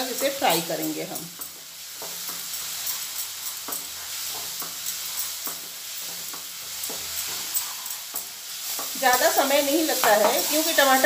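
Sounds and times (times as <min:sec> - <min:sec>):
sauce sizzling in a pan: 0:00.0 - 0:11.0
wooden spatula scraping: 0:00.1 - 0:11.0.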